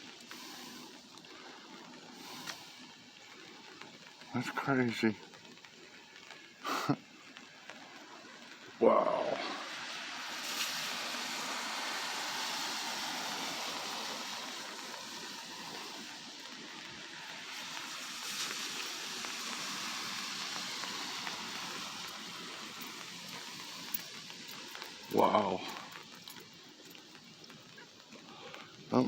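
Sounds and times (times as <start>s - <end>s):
rain hissing: 0.0s - 29.0s
tyres on wet street: 0.0s - 29.0s.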